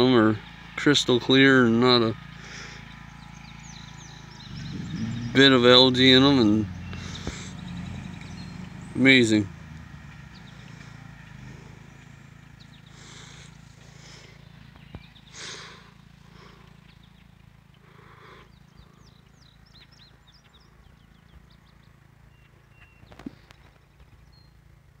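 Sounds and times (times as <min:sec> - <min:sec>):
steady low hum: 0:00.0 - 0:23.6
harsh bird calls: 0:01.3 - 0:24.6.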